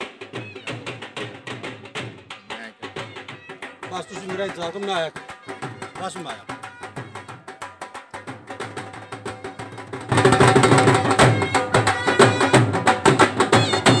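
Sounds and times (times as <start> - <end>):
music with fast percussion beat: 0.0 - 14.0.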